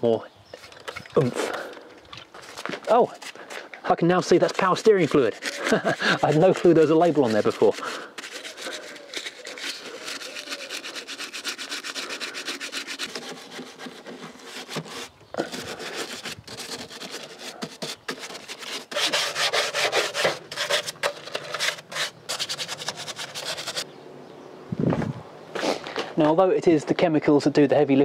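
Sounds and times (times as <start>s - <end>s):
stiff brush scrubbing plastic: 0.6s - 23.8s.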